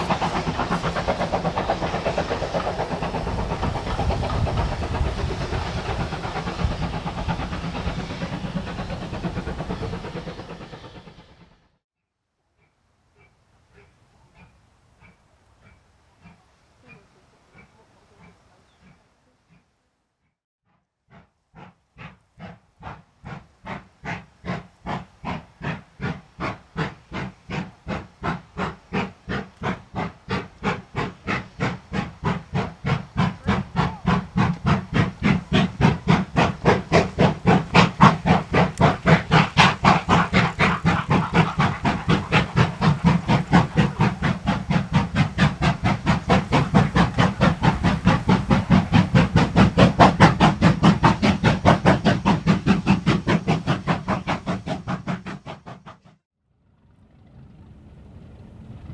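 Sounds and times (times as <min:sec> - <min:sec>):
steam locomotive chuffing: 0:00.0 - 0:11.8, 0:12.6 - 0:19.7, 0:21.0 - 0:58.9.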